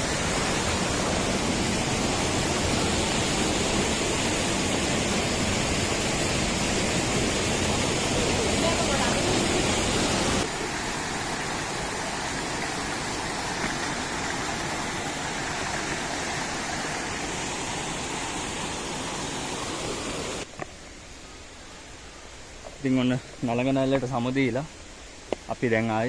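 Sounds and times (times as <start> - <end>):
stream and waterfall rushing: 0.0 - 26.0.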